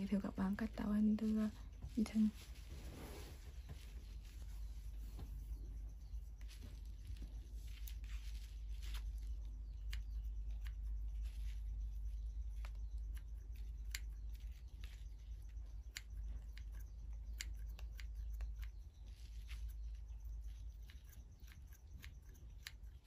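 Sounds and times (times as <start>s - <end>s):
scissors snipping twine: 3.6s - 23.0s.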